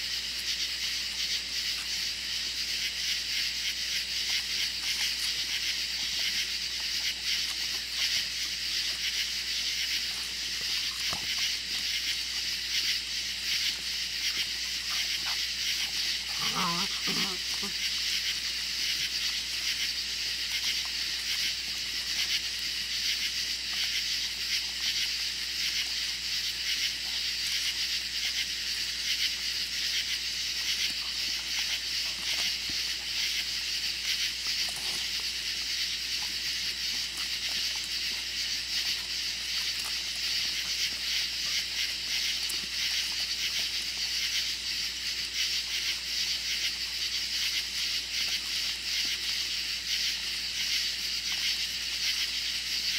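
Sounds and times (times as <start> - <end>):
night insects chorus: 0.0 - 52.9.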